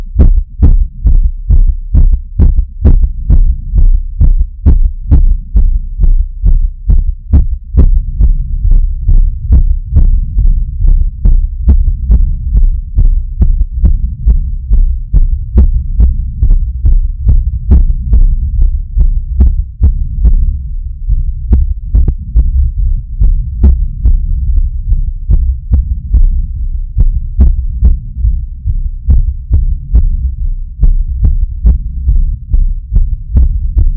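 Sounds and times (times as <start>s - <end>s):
constant low rumble: 0.0s - 33.9s
heart beating: 0.0s - 33.9s.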